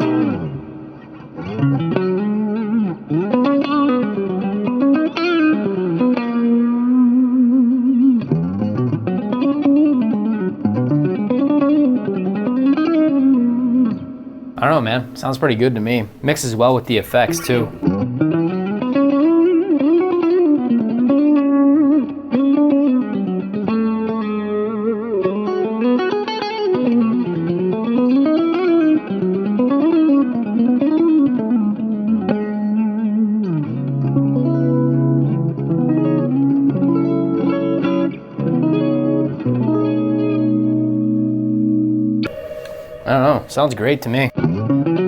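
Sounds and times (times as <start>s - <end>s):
electric guitar melody: 0.0s - 14.6s, 17.2s - 45.0s
electric guitar chords: 0.0s - 16.3s, 17.2s - 45.0s.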